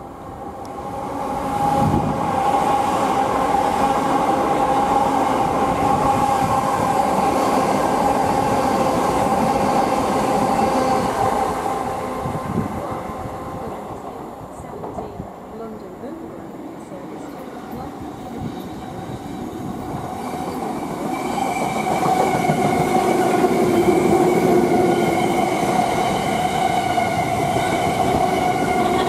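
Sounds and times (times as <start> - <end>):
electric train whine: 0.0 - 29.0
train wheels rumbling: 0.0 - 29.0.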